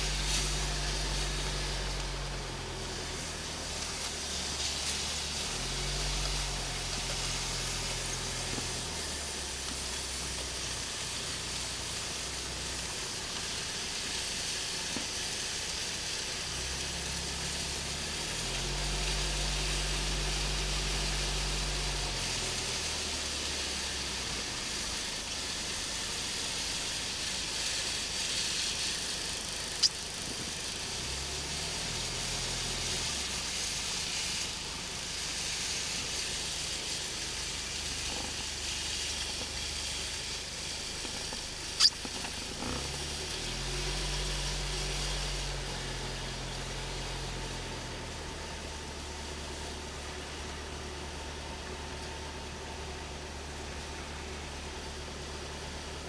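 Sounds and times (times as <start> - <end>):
outdoor hiss: 0.0 - 56.0.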